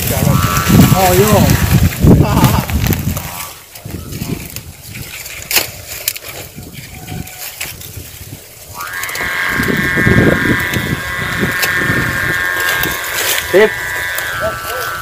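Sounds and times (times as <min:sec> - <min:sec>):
kite hummer buzzing drone: 0:00.0 - 0:15.0
wind rumbling on microphone: 0:00.0 - 0:15.0.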